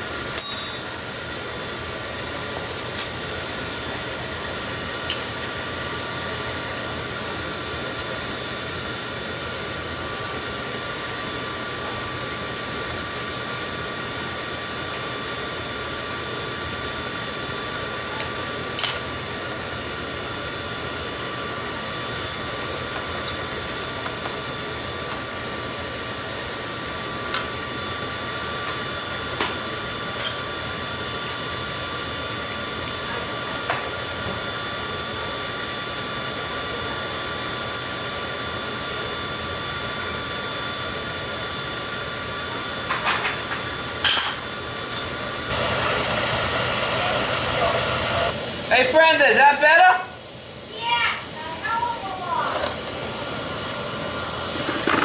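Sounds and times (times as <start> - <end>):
oil boiler burner humming: 0.0 - 55.0.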